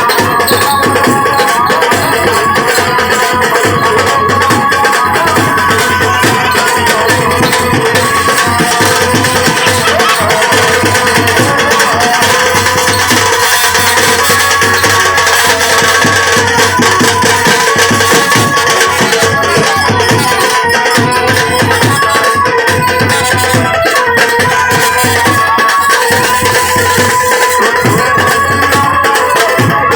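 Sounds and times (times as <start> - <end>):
fast percussion rhythm: 0.0 - 29.9.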